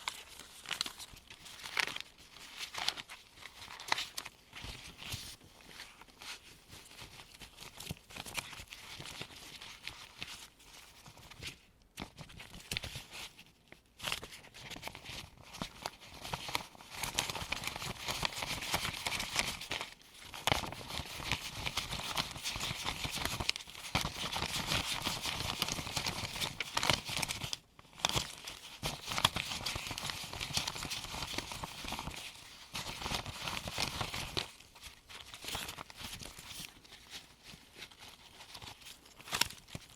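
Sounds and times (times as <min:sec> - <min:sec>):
paper bills rustling and crinkling: 0:00.0 - 0:39.9.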